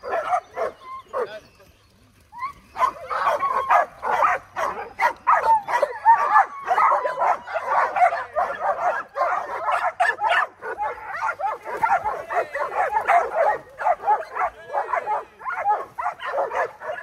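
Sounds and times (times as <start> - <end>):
dogs yelping and whining: 0.0 - 17.0.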